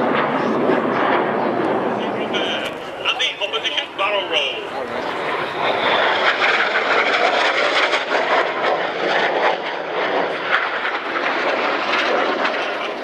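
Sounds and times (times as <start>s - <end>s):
aircraft engine flying over: 0.0s - 13.0s.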